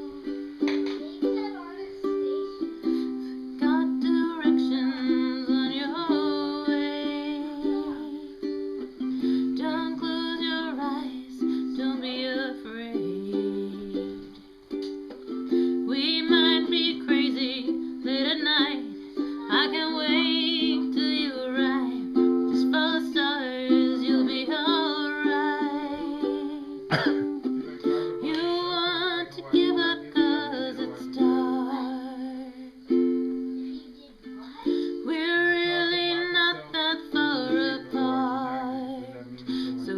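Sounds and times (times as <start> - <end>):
ukulele chords: 0.0 - 39.9.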